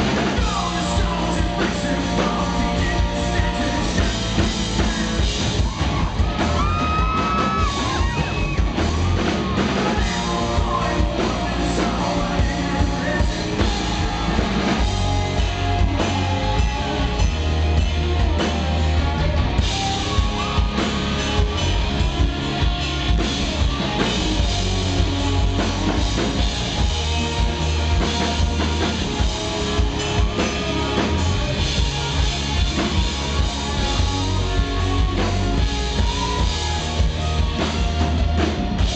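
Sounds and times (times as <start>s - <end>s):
man singing: 0.0s - 8.4s, 9.8s - 38.9s
live rock band playing: 0.0s - 38.9s.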